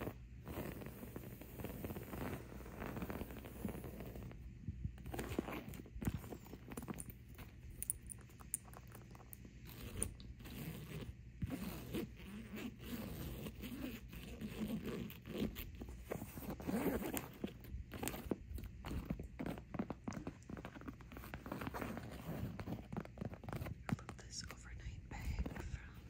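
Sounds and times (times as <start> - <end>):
fingernails scratching and tapping bag: 0.0 - 4.4, 5.0 - 24.5
zipper rasps: 0.0 - 24.1.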